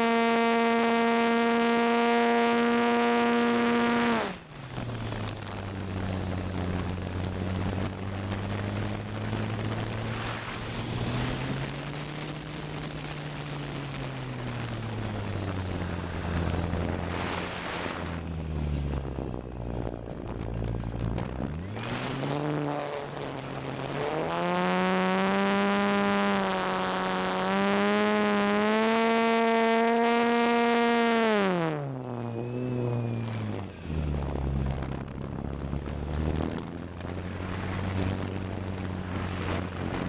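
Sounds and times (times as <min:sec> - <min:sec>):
electric motor and propeller whine: 0:00.0 - 0:40.0
wind rush: 0:04.2 - 0:28.7, 0:32.0 - 0:40.0.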